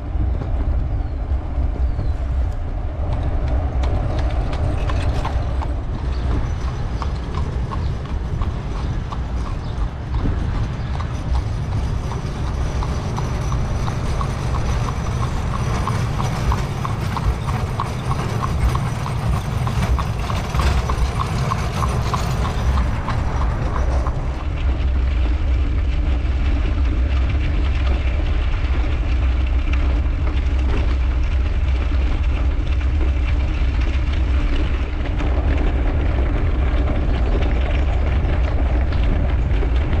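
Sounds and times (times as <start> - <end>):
horse hooves clip-clopping on asphalt: 0.0 - 40.0
road rumble: 0.0 - 40.0
wind rumble on microphone: 0.0 - 40.0.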